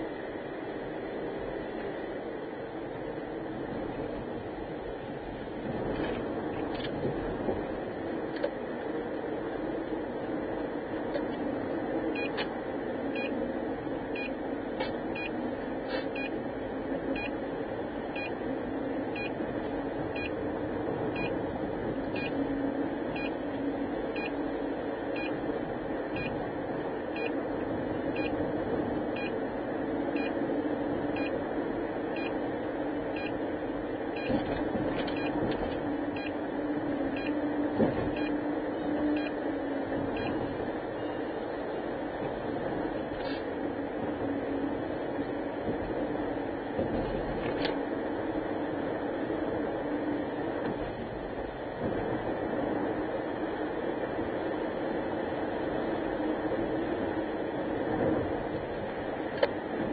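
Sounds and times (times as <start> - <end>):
car engine and tyres drone: 0.0 - 59.9.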